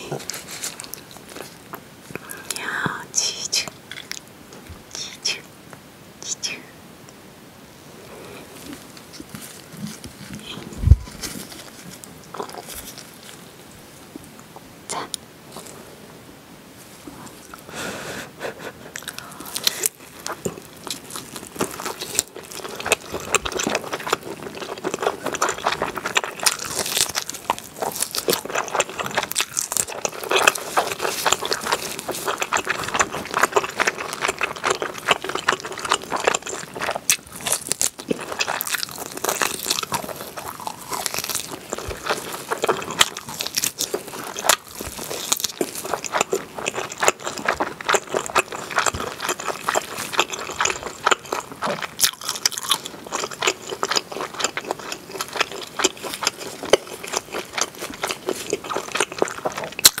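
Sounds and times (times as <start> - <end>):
close chewing of meat: 0.0 - 3.0, 8.4 - 13.8, 17.4 - 60.0.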